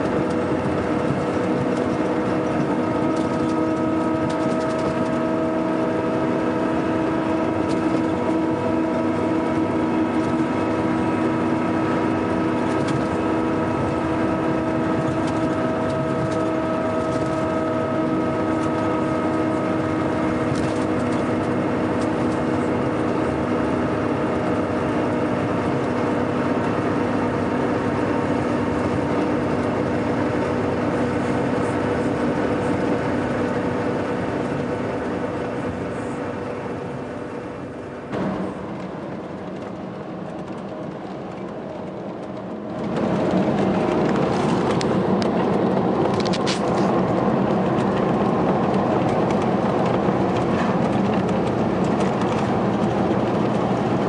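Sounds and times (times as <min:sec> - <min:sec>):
coach engine droning: 0:00.0 - 0:54.0.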